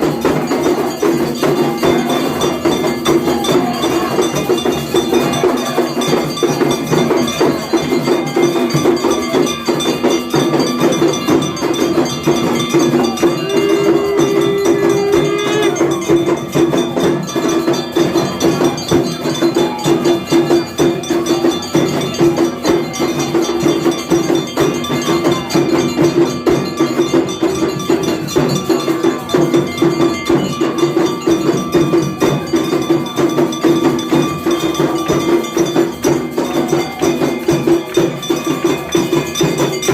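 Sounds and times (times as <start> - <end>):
struck percussion beating: 0.0 - 39.9
temple bells clanging: 0.0 - 39.9.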